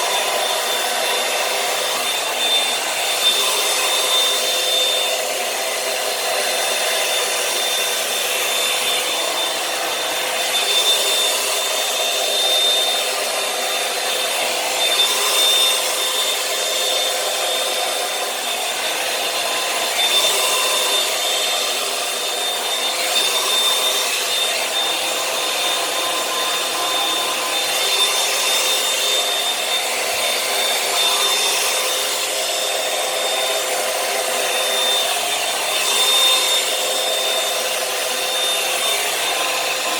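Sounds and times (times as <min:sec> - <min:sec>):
hair dryer brush running: 0:00.0 - 0:39.9.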